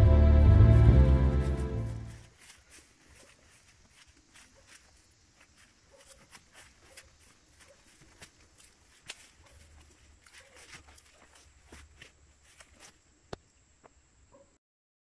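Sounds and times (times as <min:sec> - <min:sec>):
footsteps on grass: 0:00.6 - 0:13.2.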